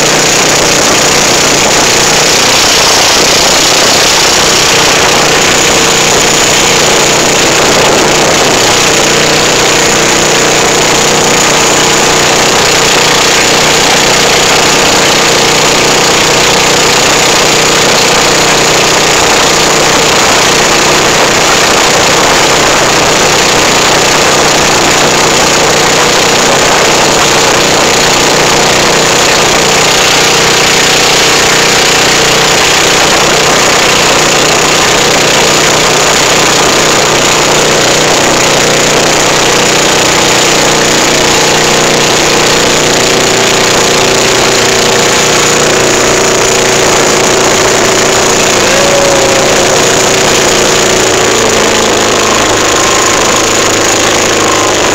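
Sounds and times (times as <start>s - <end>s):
boat motor running: 0.0s - 54.9s.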